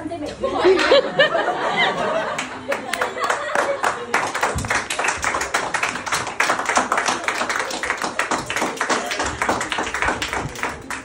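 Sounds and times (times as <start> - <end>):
people clapping: 0.8 - 1.0, 1.9 - 11.0.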